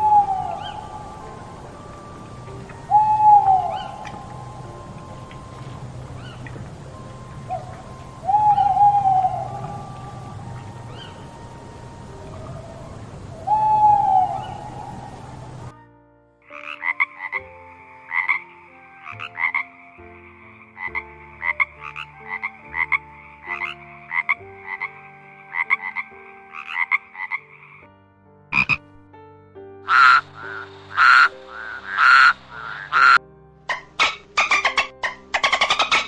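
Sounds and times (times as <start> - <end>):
frogs croaking: 0.0 - 15.7, 16.5 - 27.9, 28.6 - 28.9, 29.8 - 36.0.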